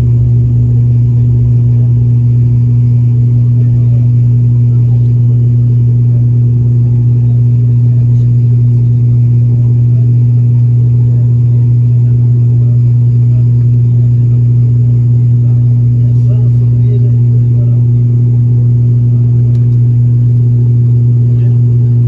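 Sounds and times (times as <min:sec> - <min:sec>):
propeller hum in aircraft cabin: 0:00.0 - 0:22.0
rumbling engine noise: 0:00.0 - 0:22.0.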